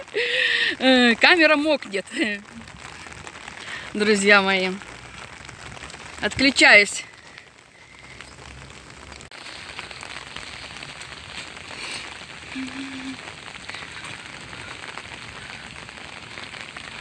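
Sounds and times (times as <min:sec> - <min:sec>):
rain on an umbrella: 0:00.0 - 0:17.0.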